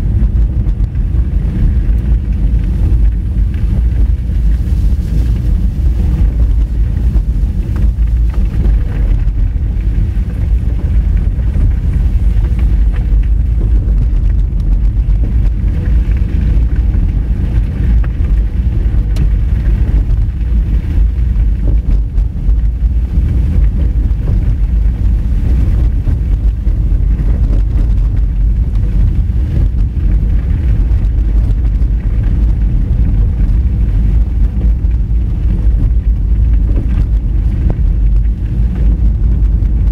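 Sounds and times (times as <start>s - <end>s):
stones clicking under car: 0.0s - 39.9s
tyres rumbling on gravel: 0.0s - 39.9s.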